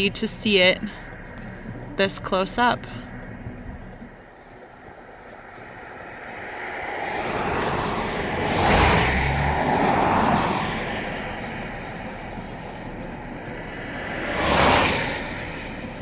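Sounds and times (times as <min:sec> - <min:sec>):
cars passing on a road: 0:00.0 - 0:16.0.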